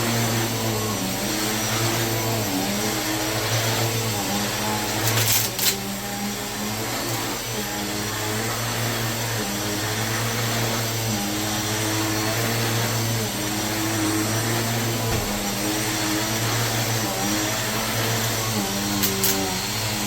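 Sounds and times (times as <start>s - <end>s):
vacuum cleaner motor running: 0.0s - 20.0s.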